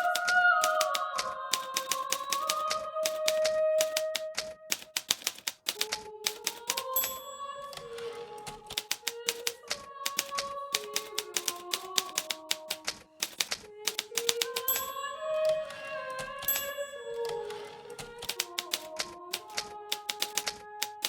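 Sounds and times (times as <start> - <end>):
manual typewriter typing: 0.0 - 21.0.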